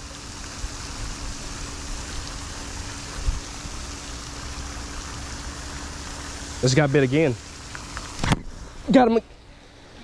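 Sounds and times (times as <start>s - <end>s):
faint steady hum: 0.0s - 10.0s
fountain spray splashing on water: 0.0s - 10.0s.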